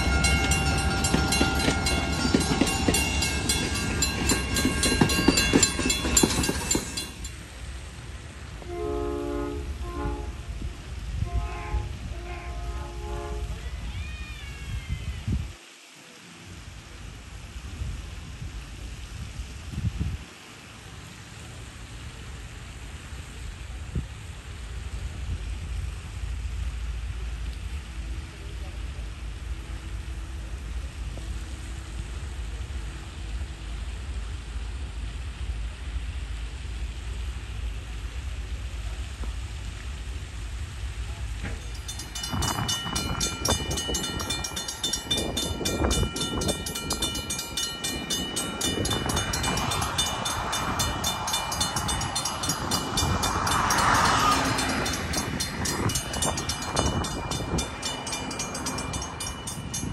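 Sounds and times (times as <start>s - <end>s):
diesel passenger train passing: 0.0s - 14.3s, 20.9s - 59.9s.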